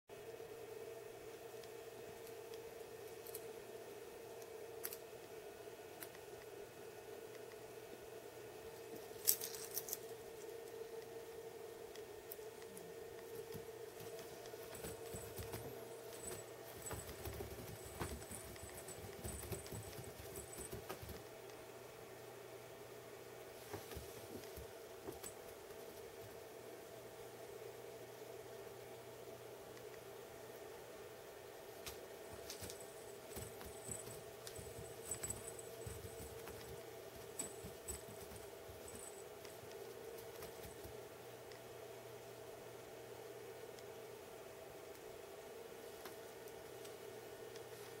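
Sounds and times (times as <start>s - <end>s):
faint steady hum: 0.1s - 48.0s.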